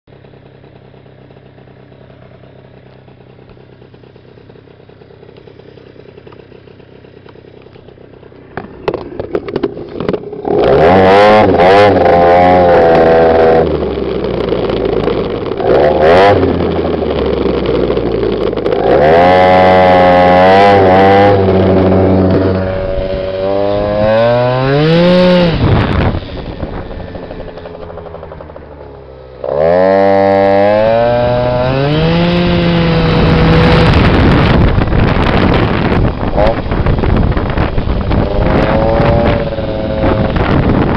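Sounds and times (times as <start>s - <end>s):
scooter engine revving: 0.2s - 40.9s.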